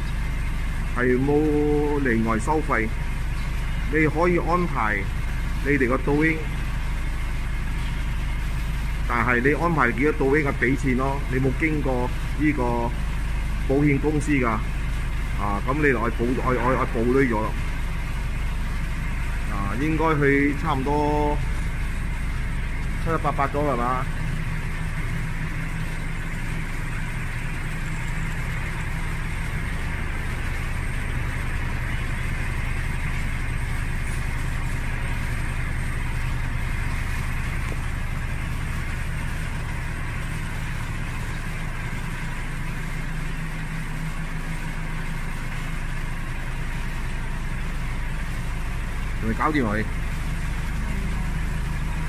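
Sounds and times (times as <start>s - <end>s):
vehicle engine idling: 0.0s - 52.0s.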